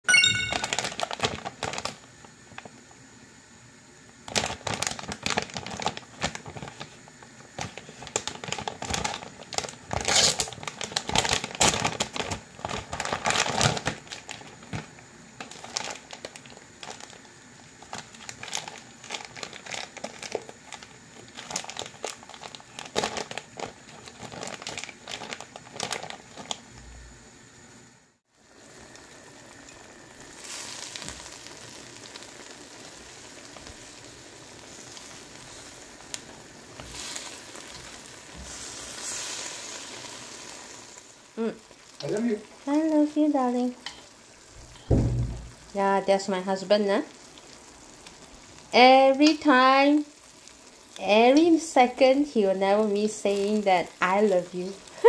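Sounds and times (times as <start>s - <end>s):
plastic packaging crinkling: 0.1s - 2.7s, 4.2s - 26.8s, 30.2s - 51.0s
food sizzling in a wok: 0.1s - 55.0s.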